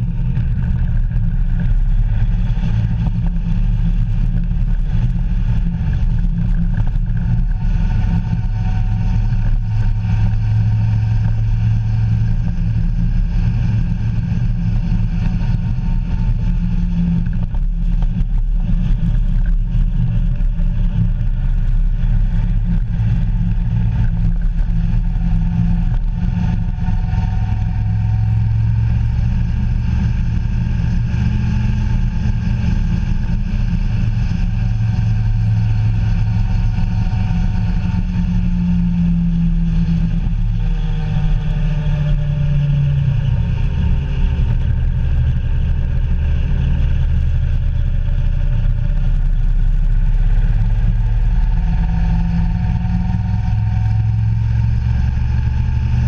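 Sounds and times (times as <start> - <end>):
tyre and wind noise: 0.0 - 56.0
vehicle engine drone: 0.0 - 56.0.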